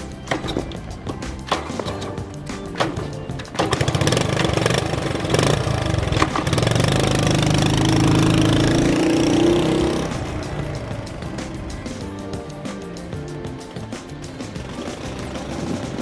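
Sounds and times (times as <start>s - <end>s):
motorcycle engine starting and running: 0.0s - 16.0s.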